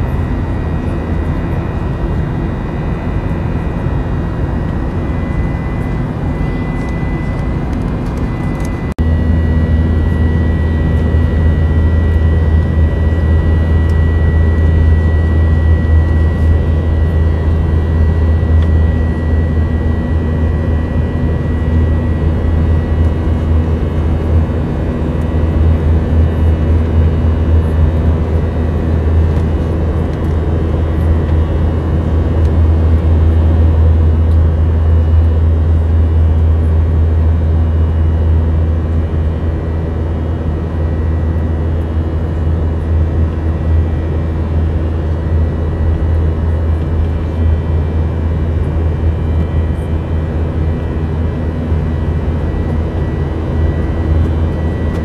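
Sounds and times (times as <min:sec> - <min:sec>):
jet cabin engine drone: 0:00.0 - 0:55.0.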